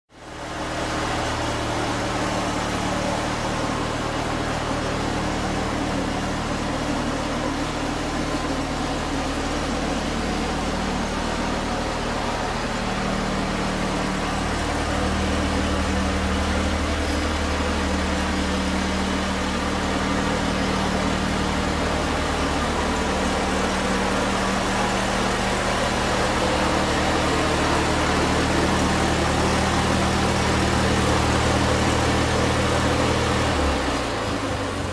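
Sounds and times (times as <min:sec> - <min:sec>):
riding mower engine running: 0:00.1 - 0:34.9.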